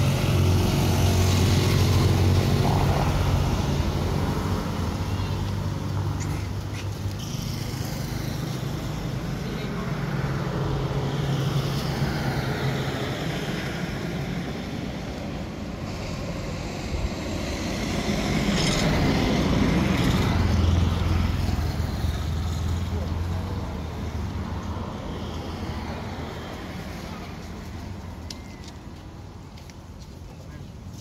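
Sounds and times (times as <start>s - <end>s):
motor vehicle engines humming: 0.0s - 31.0s.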